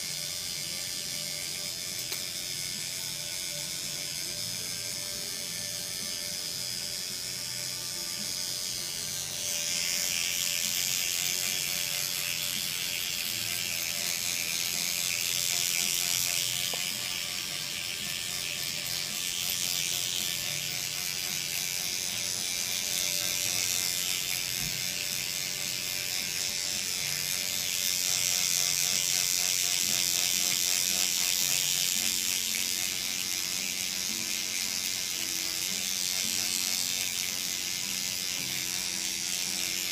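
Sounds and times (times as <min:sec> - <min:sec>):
derma pen buzzing: 0:00.0 - 0:39.9.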